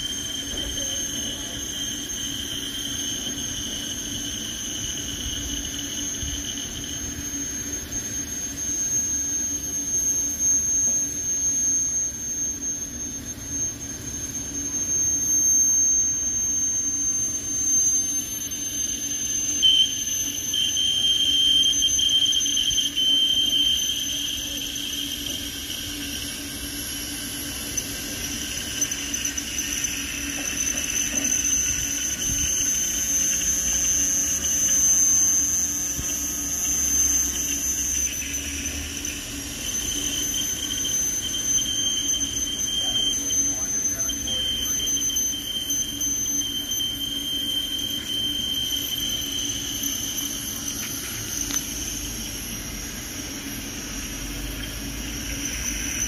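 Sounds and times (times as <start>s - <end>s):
wheels squealing on rail: 0.0s - 56.0s.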